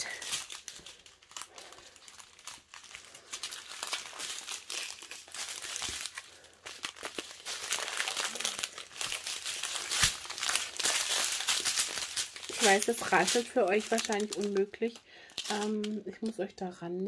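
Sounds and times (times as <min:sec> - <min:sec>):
plastic bags crinkling and rattling: 0:00.0 - 0:16.8.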